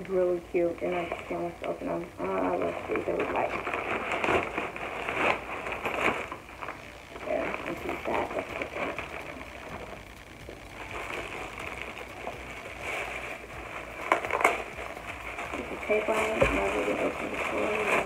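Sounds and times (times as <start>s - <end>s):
plastic packaging crinkling: 1.0s - 18.0s.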